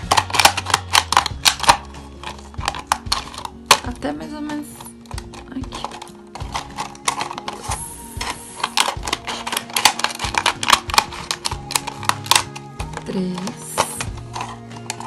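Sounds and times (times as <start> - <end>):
scissors snipping plastic bottle: 0.0 - 15.0
soft background music: 0.0 - 15.0.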